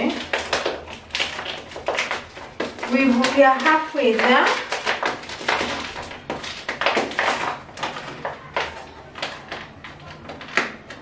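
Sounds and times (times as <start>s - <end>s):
plastic crinkling and crackling: 0.0s - 11.0s
sharp plastic crack: 0.0s - 11.0s.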